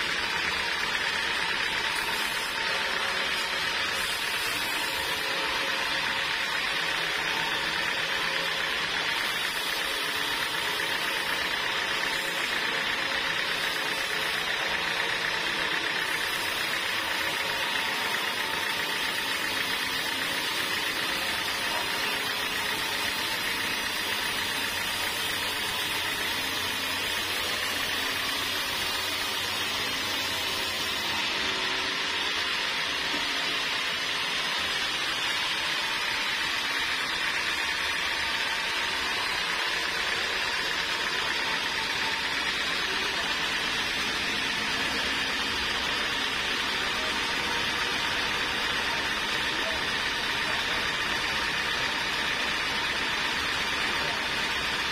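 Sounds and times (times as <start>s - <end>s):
band saw cutting log: 0.0s - 54.9s
machine motor running: 0.0s - 54.9s.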